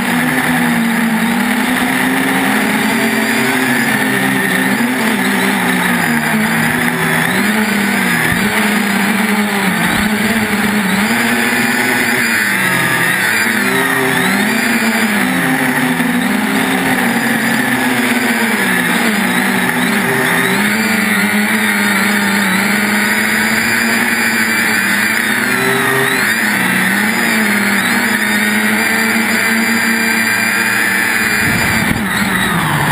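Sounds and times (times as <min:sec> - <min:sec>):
drone motors buzzing: 0:00.0 - 0:32.9.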